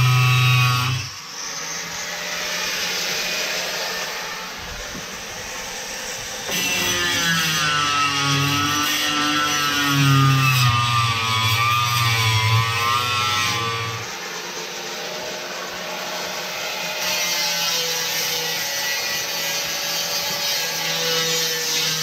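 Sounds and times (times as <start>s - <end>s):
grinder rasping cut: 0.0s - 22.0s.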